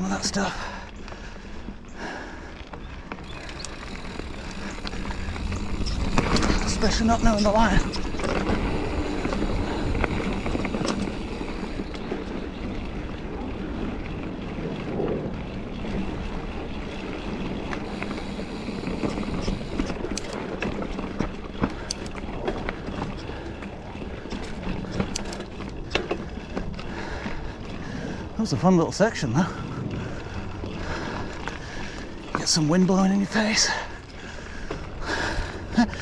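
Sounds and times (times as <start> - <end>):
bike clicks and rattles: 0.0 - 36.0
tyre and wind noise: 0.9 - 36.0.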